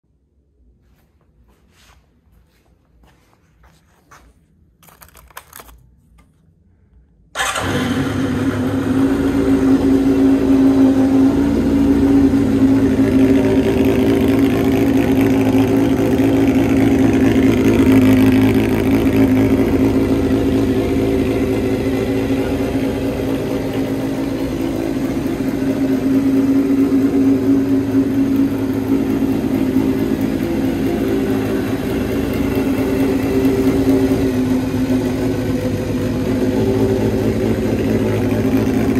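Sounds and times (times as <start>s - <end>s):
motorcycle engine idling: 7.4s - 38.9s.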